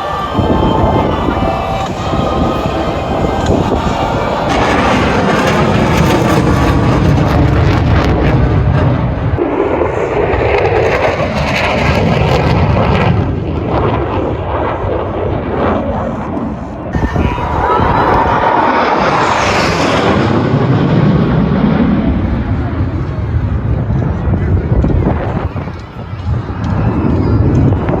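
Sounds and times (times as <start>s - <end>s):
high jet whine: 0.0s - 12.4s, 13.2s - 28.0s
jet engines rumbling overhead: 0.0s - 28.0s.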